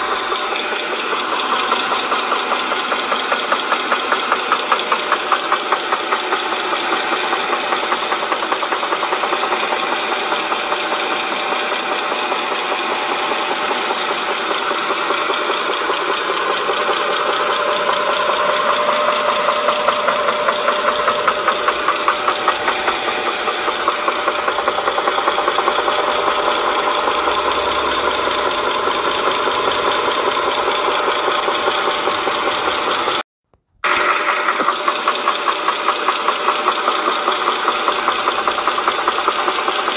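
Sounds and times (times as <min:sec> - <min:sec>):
engine knocking and rattling: 0:00.0 - 0:33.2, 0:33.8 - 0:39.9.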